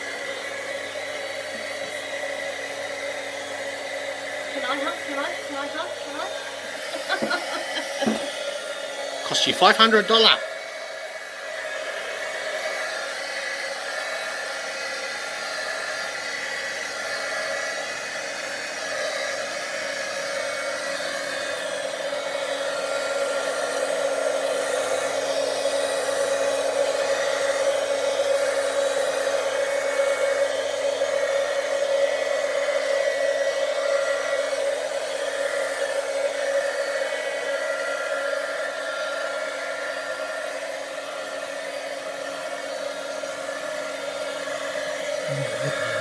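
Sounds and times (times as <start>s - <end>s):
heat gun blowing hot air: 0.0s - 46.0s.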